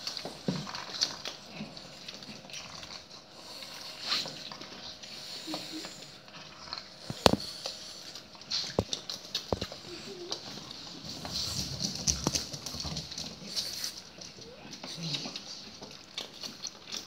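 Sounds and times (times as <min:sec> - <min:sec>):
dogs chewing and licking: 0:00.0 - 0:17.0.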